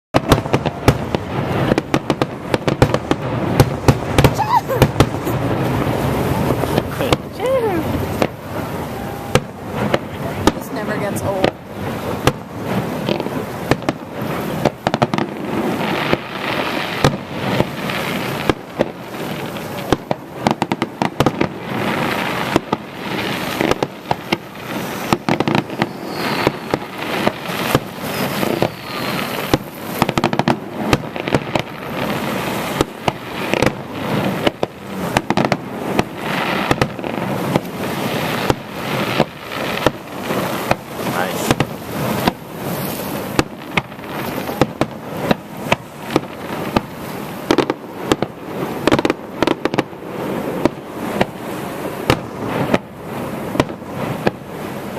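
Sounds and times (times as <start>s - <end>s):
fireworks bangs and crackles: 0.1s - 54.9s
rapid fireworks pops: 0.1s - 54.9s.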